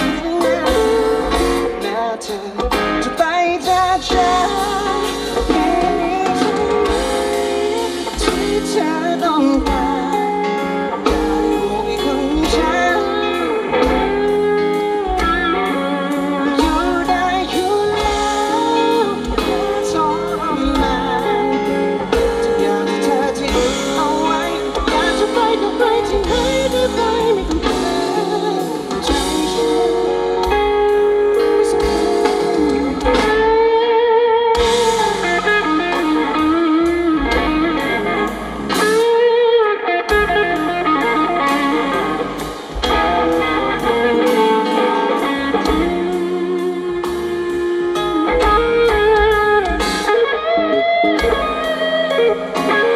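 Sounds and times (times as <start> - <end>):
band playing live: 0.0 - 52.9
electric guitar: 0.0 - 52.9
person singing: 0.0 - 52.9.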